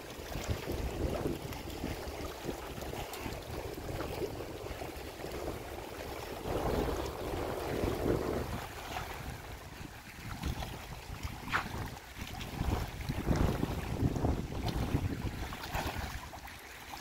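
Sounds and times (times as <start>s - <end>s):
wind noise on microphone: 0.0s - 16.6s
waves lapping on rocks: 0.0s - 17.0s.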